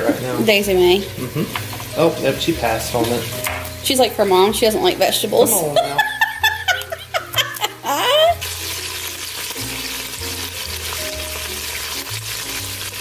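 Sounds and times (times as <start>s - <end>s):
bacon sizzling: 0.0s - 13.0s.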